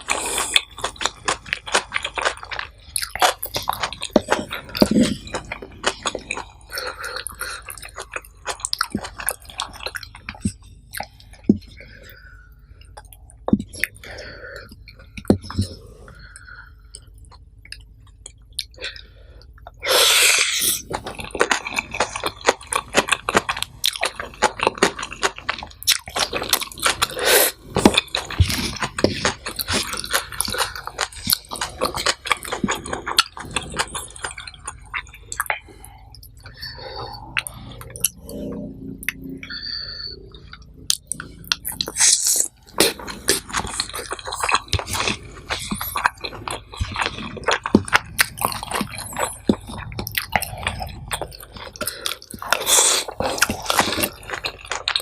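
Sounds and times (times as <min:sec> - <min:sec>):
person chewing with wet mouth clicks: 0:00.0 - 0:12.2, 0:16.9 - 0:55.0.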